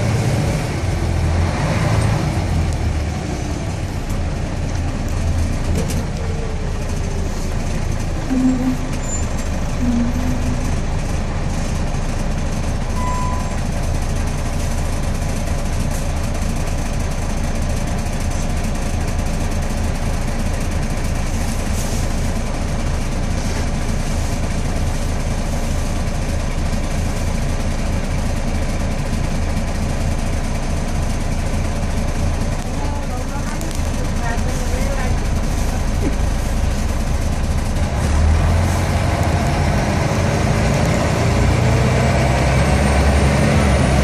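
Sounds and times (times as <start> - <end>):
bus engine droning: 0.0 - 44.0.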